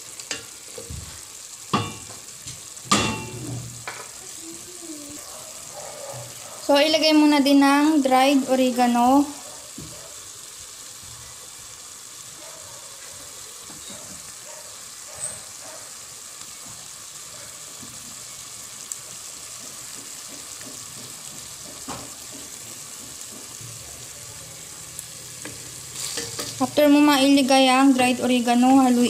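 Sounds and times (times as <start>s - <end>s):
pork sizzling in a pot: 0.0s - 29.0s.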